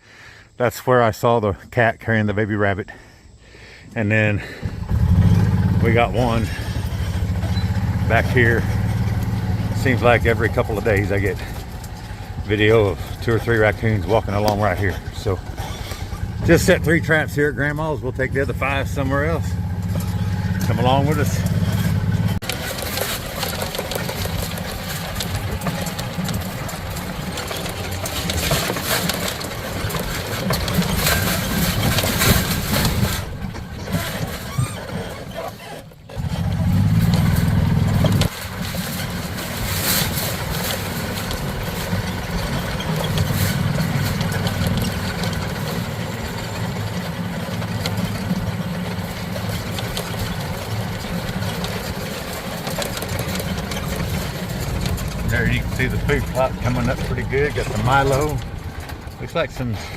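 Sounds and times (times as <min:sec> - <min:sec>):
vehicle engine running: 0:04.2 - 0:59.9.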